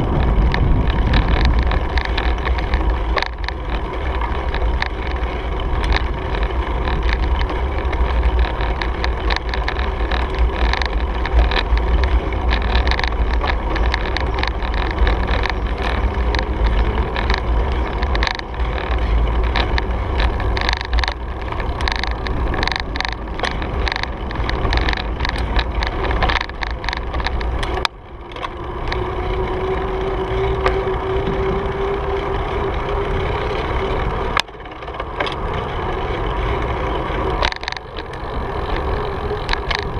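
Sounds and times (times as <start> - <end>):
tyre rumble on pavement: 0.0 - 34.4
bike clicks and knocks: 0.0 - 39.9
steady whining tone: 0.0 - 39.9
wind buffeting microphone: 0.0 - 39.9.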